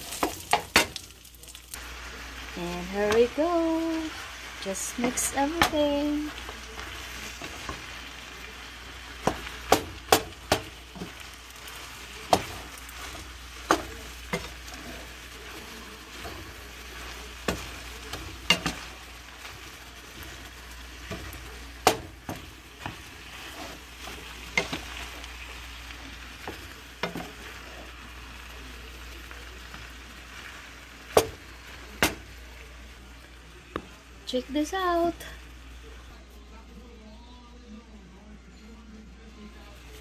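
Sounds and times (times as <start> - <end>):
rice sizzling in a skillet: 0.0 - 37.3.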